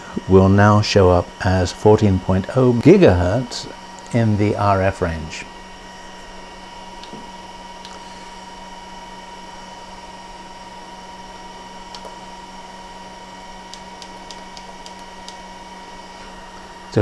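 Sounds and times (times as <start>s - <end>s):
electronic equipment hum and hiss: 0.0s - 17.0s
whine of fixed tones: 0.0s - 17.0s.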